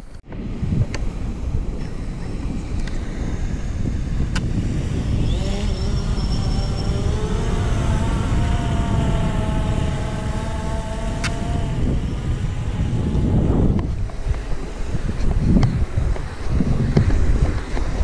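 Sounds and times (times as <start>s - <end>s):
wind noise on microphone: 0.0s - 18.0s
drone motors whining: 0.9s - 18.0s.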